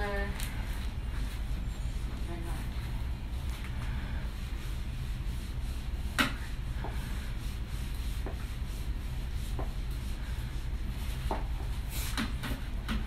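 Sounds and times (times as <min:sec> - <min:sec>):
steady low hum: 0:00.0 - 0:13.0
steamer head rubbing on shirt: 0:00.0 - 0:13.0.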